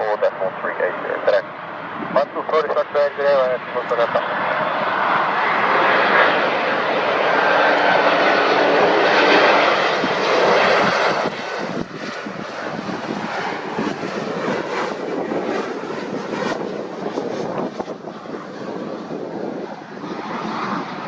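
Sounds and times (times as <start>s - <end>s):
jet engine roar: 0.0s - 21.0s
jet engine whine: 0.0s - 21.0s.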